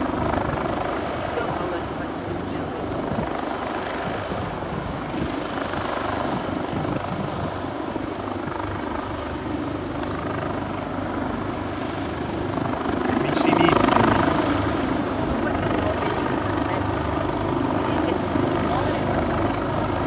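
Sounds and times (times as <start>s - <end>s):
helicopter hovering: 0.0s - 20.0s.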